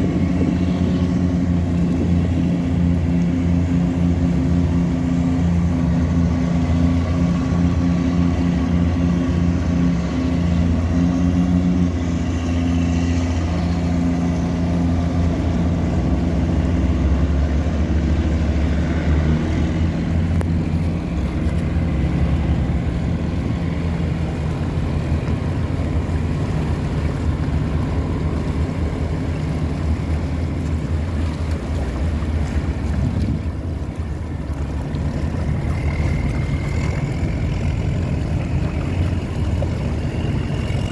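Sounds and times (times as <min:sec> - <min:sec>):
diesel engine humming: 0:00.0 - 0:40.9
water wash: 0:00.0 - 0:40.9.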